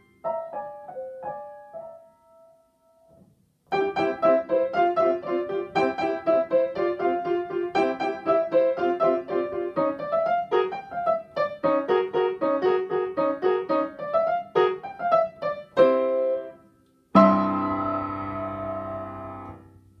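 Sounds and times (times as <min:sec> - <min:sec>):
upright piano playing: 0:00.0 - 0:03.1, 0:03.7 - 0:20.0.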